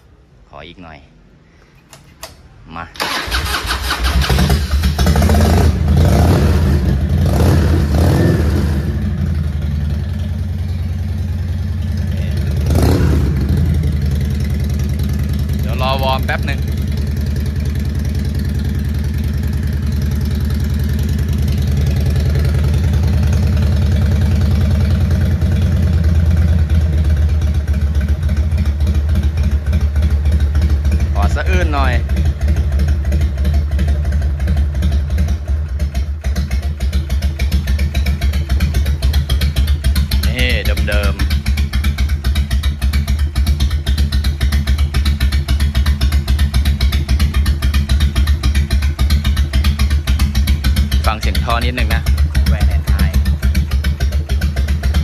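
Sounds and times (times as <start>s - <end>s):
motorcycle engine idling: 6.6s - 55.0s.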